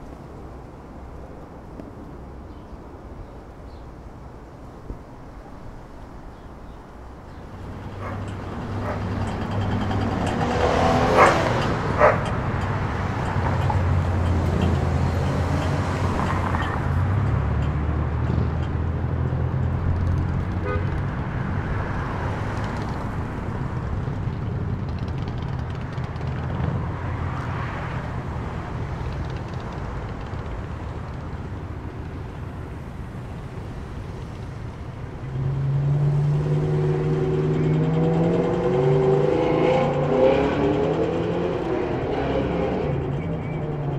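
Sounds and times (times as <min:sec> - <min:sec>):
road traffic noise: 0:00.0 - 0:43.9
vehicle engine drone: 0:00.0 - 0:43.9.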